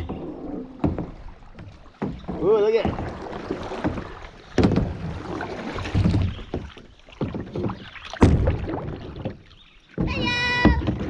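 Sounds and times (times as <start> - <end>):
hollow knocks against hull: 0.0 - 11.0
paddle strokes and splashing: 0.0 - 11.0.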